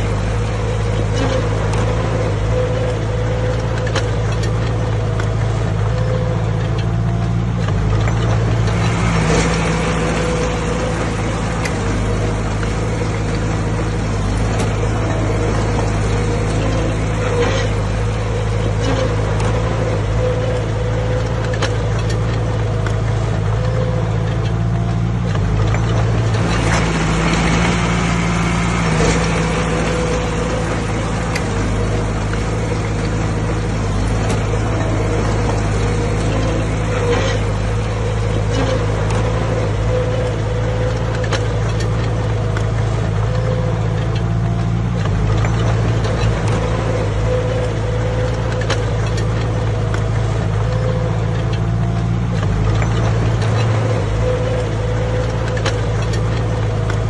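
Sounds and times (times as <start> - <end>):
heavy diesel machinery running: 0.0 - 57.0
knocks and clanks: 0.0 - 57.0.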